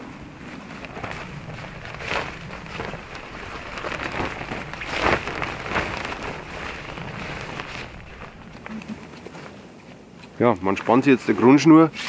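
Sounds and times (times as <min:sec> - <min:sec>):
tarp rustling and crackling: 0:00.0 - 0:10.2.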